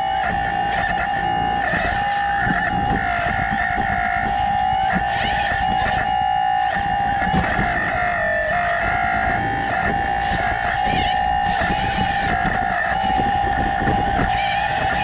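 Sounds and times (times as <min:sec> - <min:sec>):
hydraulic pump whine: 0:00.0 - 0:15.0.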